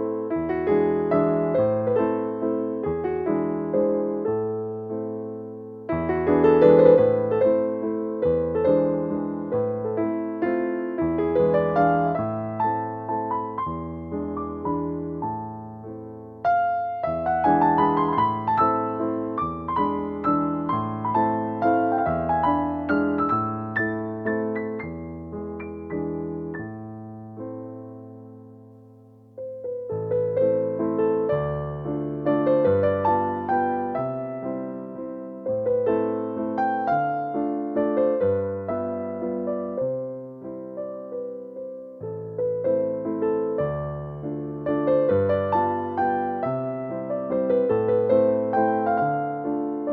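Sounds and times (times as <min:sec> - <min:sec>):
slow piano piece: 0:00.0 - 0:49.9.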